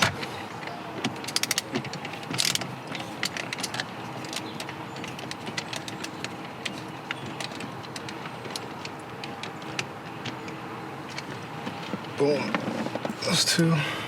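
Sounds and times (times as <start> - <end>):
light ticks and handling noises: 0.0 - 13.3.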